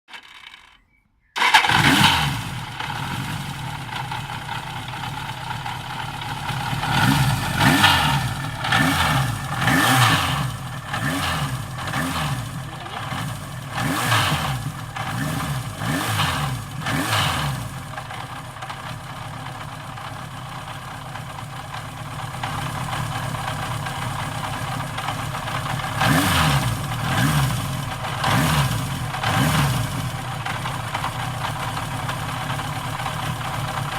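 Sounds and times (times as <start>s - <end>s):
motorcycle engine idling and revving: 0.1s - 33.9s
motorcycle engine starting: 0.1s - 33.9s.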